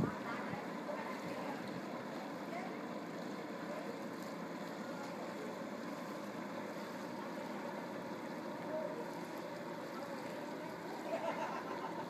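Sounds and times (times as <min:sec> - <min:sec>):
boat diesel engine running: 0:00.0 - 0:12.0.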